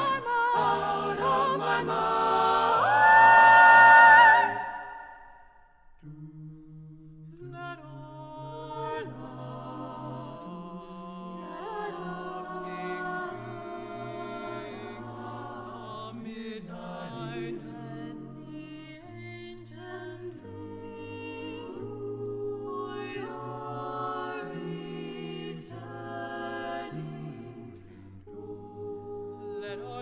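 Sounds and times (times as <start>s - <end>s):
a cappella group singing jazz ballad: 0.0s - 4.8s, 7.3s - 30.0s.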